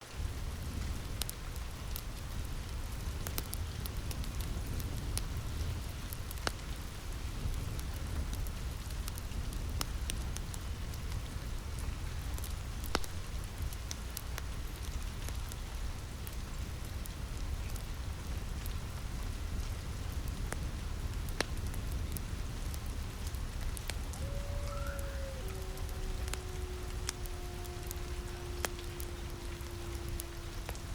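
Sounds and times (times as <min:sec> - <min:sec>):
rain falling on a roof: 0:00.0 - 0:30.9
wood fire crackling: 0:00.1 - 0:30.9.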